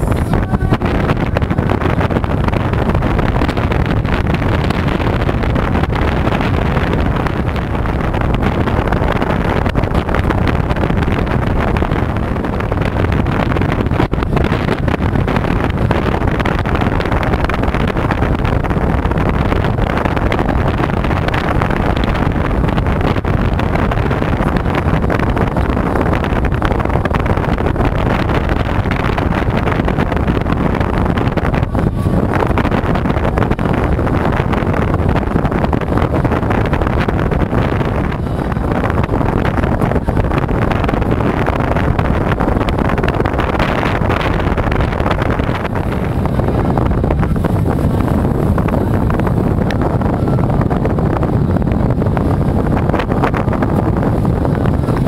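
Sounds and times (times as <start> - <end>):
strong wind on microphone: 0.0 - 55.0.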